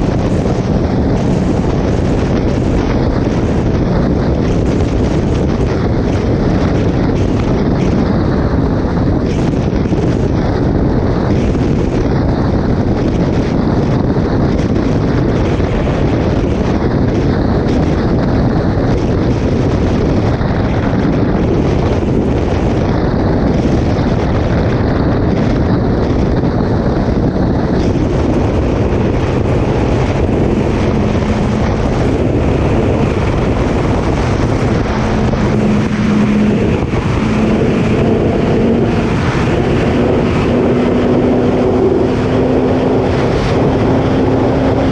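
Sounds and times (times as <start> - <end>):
motorcycle engine accelerating: 0.0 - 44.9
wind buffeting microphone: 0.0 - 44.9.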